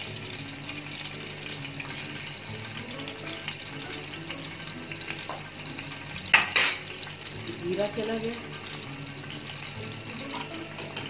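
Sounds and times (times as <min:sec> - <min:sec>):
background music of low notes: 0:00.0 - 0:11.0
seeds frying in oil: 0:00.0 - 0:11.0.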